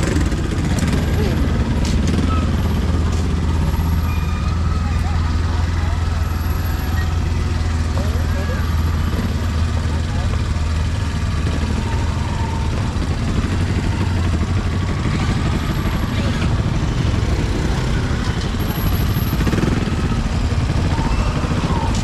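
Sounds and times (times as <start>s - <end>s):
motorbike engines running: 0.0s - 22.0s.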